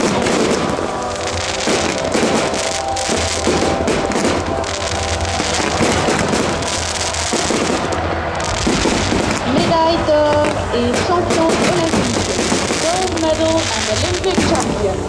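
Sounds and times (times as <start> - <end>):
fireworks bangs and crackles: 0.0 - 15.0
music playing: 0.0 - 15.0.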